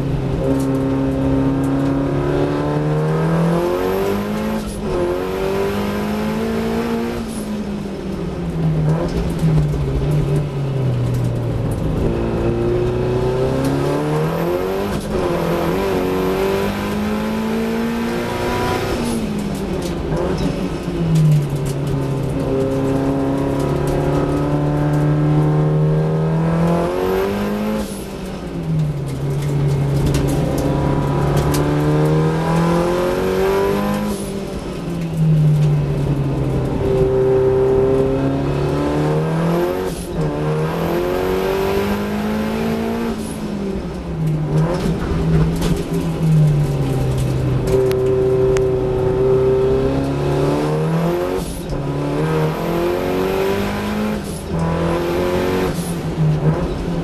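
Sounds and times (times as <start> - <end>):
race car engine revving: 0.0 - 7.4, 8.8 - 57.0.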